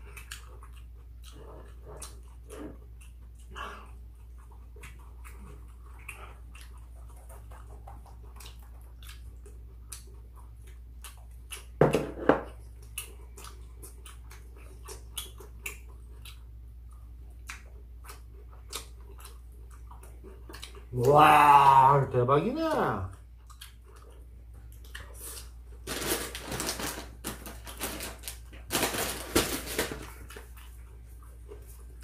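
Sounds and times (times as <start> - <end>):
chewing: 0.0 - 11.8, 12.5 - 21.2, 22.7 - 25.9, 30.0 - 32.0
low steady hum: 0.0 - 32.0.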